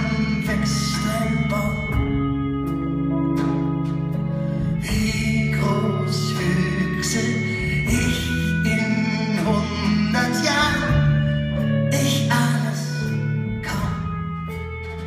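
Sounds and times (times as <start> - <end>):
bass line: 0.0 - 15.0
drums: 0.0 - 15.0
guitars: 0.0 - 15.0
person singing: 0.0 - 15.0.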